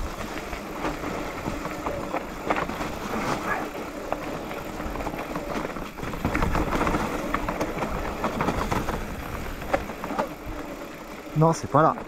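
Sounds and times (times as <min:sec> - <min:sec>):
bike clicks and rattles: 0:00.0 - 0:12.0
bike tyres rolling over leaves: 0:00.0 - 0:12.0.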